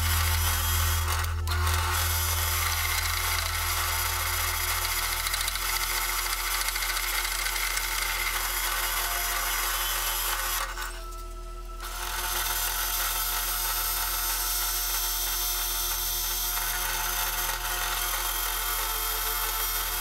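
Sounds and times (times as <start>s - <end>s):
drill press cutting metal: 0.0s - 11.2s, 11.8s - 20.0s
drill press running: 0.0s - 20.0s.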